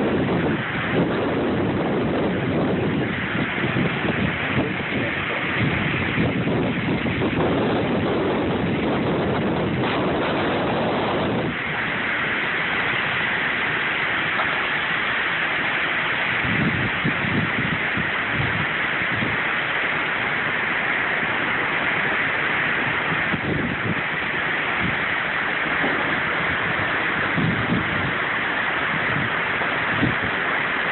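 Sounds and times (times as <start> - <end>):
wind gusts buffeting microphone: 0.0 - 19.6, 21.4 - 30.9
heavy rain hissing: 0.0 - 30.9.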